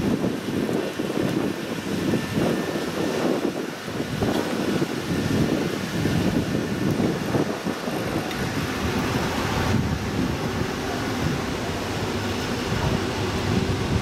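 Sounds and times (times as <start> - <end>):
train wheels rumbling: 1.2 - 14.0.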